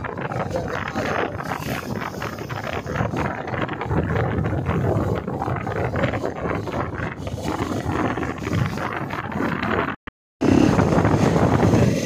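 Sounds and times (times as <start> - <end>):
motorcycle running: 0.0 - 12.0
wind rushing over microphone: 0.0 - 12.0.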